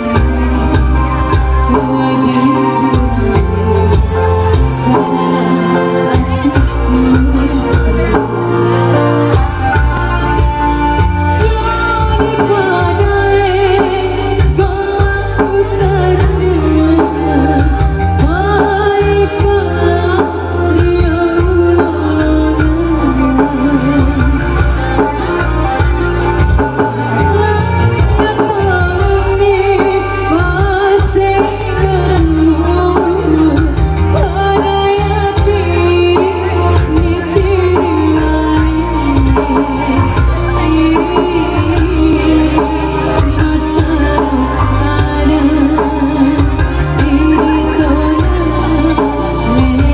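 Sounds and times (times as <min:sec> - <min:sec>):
band music with singing: 0:00.0 - 0:49.9.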